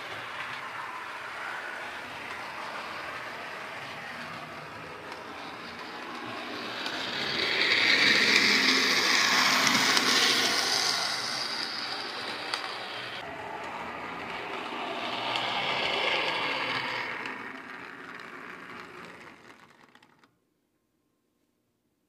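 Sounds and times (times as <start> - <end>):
model streetcar rolling whir: 0.0 - 20.3.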